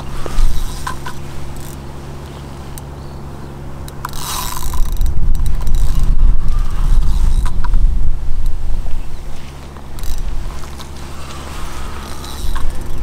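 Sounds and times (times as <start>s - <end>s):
fishing reel working: 0.0s - 2.9s, 3.8s - 8.6s, 9.7s - 13.0s
heavy low rumble on microphone: 0.0s - 13.0s.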